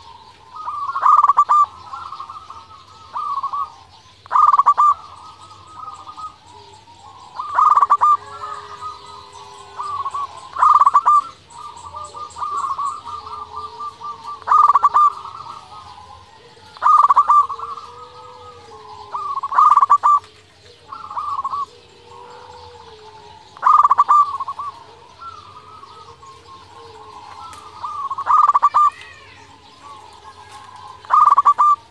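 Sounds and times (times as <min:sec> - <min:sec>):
dove cooing: 0:00.0 - 0:31.9.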